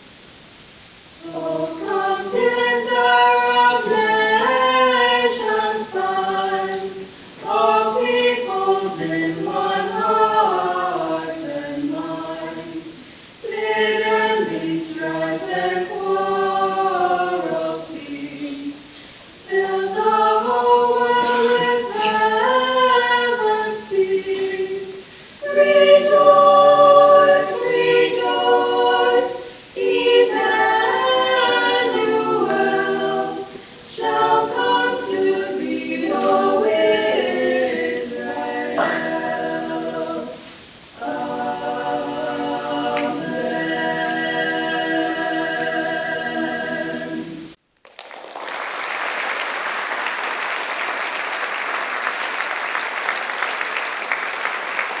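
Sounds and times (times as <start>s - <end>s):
chorus singing unaccompanied: 1.1s - 47.6s.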